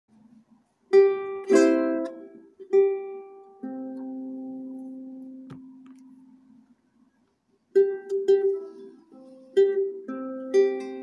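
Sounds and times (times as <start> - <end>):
ukulele plucking: 0.3 - 6.7, 7.7 - 11.0.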